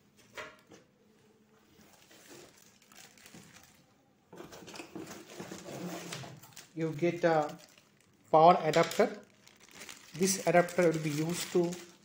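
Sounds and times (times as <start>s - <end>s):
plastic bags rustling: 1.6s - 12.0s.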